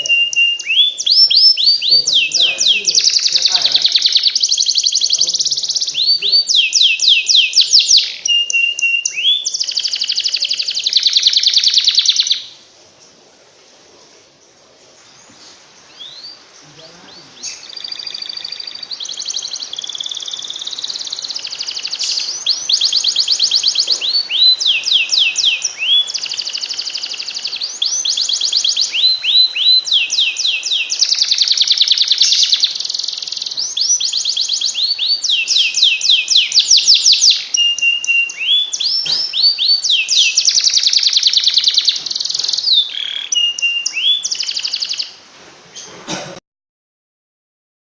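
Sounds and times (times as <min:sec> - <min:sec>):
canary singing trills: 0:00.0 - 0:13.2, 0:14.4 - 0:45.9.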